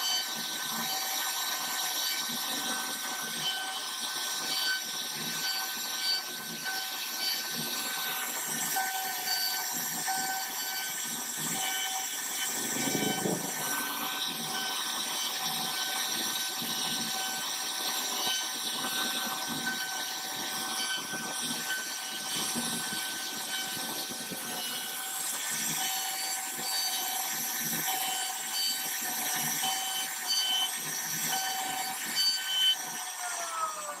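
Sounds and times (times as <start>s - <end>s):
router spindle whining: 0.0s - 34.0s.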